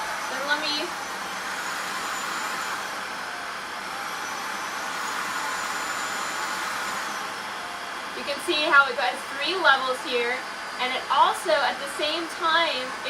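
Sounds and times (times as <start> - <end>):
stick vacuum cleaner whine: 0.0 - 13.0.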